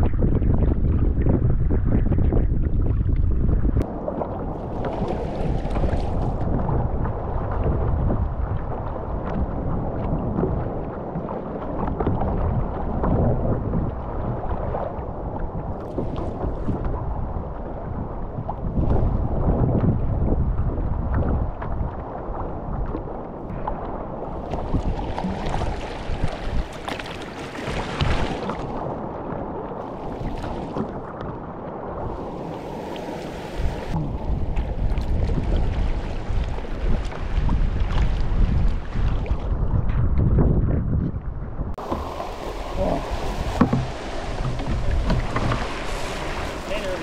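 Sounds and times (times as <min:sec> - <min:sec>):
wind rumbling on microphone: 0:00.0 - 0:47.0
paddle splashing in water: 0:03.8 - 0:40.0, 0:41.8 - 0:47.0.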